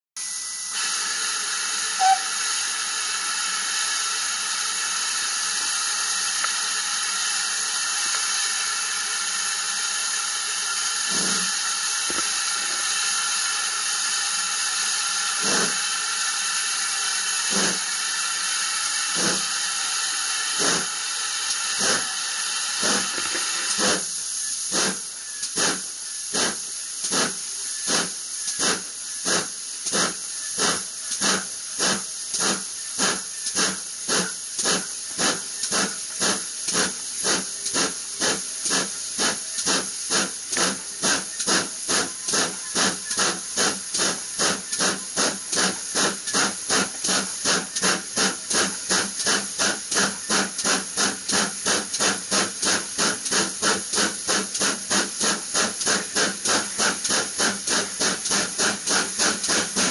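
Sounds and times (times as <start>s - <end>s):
high steam note: 0.2s - 59.9s
steam hissing: 0.2s - 59.9s
steam locomotive exhaust chuffs: 0.2s - 59.9s.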